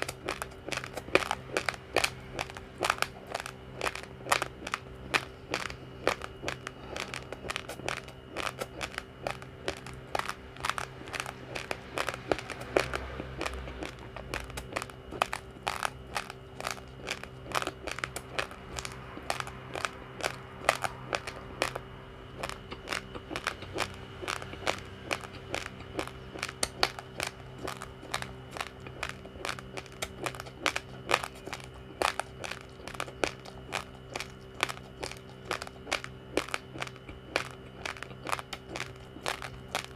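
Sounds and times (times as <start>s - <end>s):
rice grains being chewed: 0.0s - 39.9s
steady low hum: 0.0s - 39.9s.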